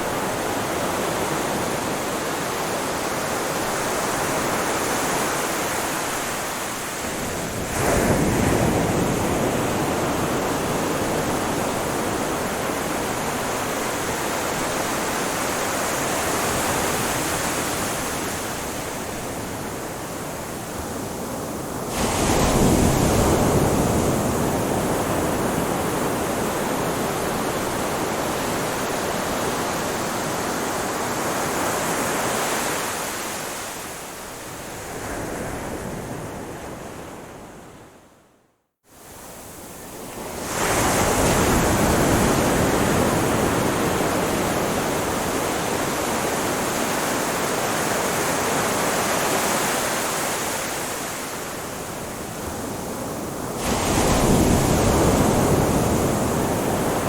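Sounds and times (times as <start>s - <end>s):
ocean waves on a shore: 0.0s - 38.3s, 38.9s - 57.0s.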